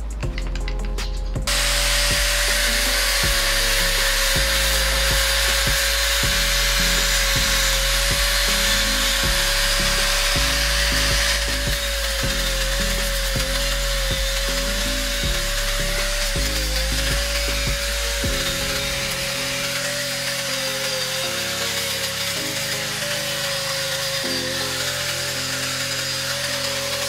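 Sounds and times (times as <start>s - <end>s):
sanding disc scraping metal: 0.0s - 27.0s
angle grinder motor whine: 1.5s - 27.0s.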